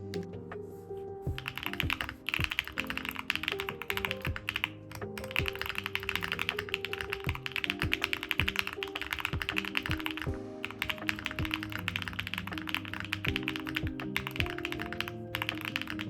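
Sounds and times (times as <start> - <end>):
background music: 0.0 - 16.0
mechanical keyboard typing clacks: 1.4 - 16.0.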